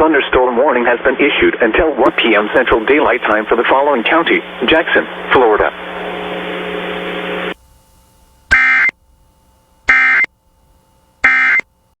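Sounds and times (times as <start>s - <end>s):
radio hiss: 2.0s - 11.7s
buzzy data tone squawks: 2.1s - 11.9s.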